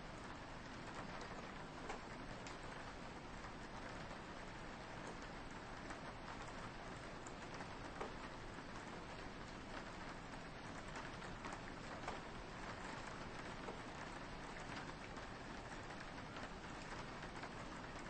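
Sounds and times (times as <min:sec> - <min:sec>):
steady light rain: 0:00.0 - 0:18.0.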